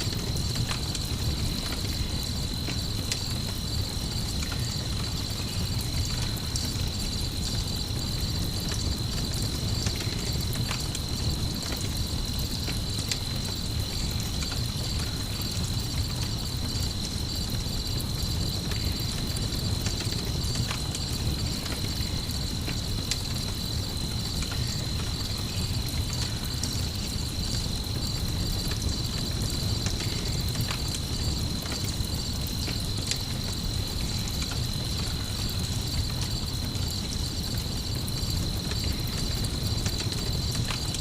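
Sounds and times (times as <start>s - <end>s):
campfire crackling: 0.0s - 41.0s
crickets chirping: 0.0s - 41.0s.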